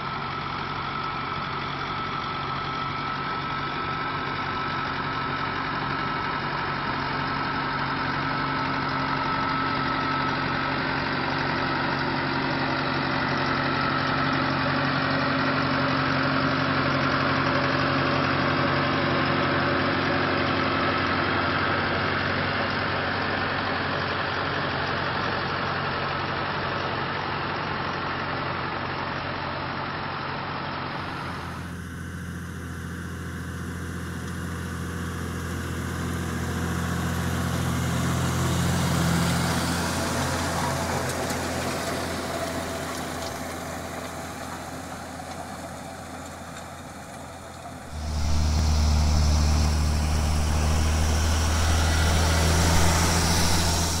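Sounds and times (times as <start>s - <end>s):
deep tractor engine: 0.0s - 54.0s
tractor engine running: 0.0s - 54.0s.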